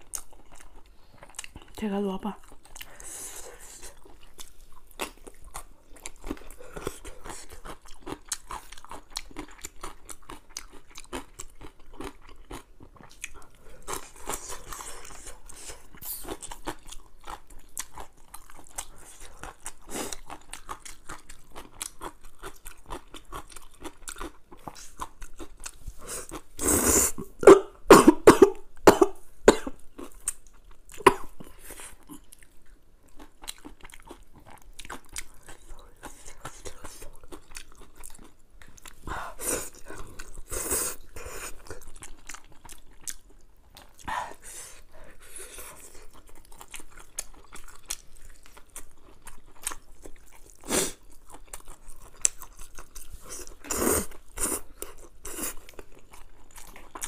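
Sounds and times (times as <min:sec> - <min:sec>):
wet chewing and crunching: 0:00.0 - 0:26.6, 0:29.7 - 0:57.0.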